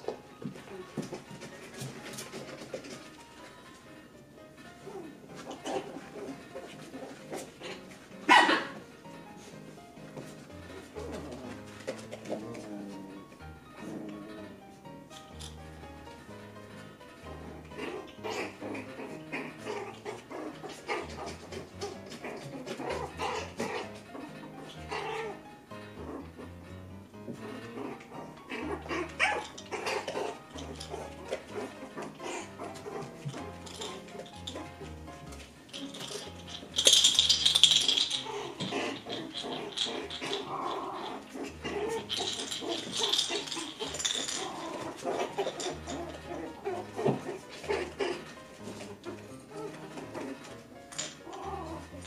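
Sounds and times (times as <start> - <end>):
puppies crying: 0.0 - 52.0.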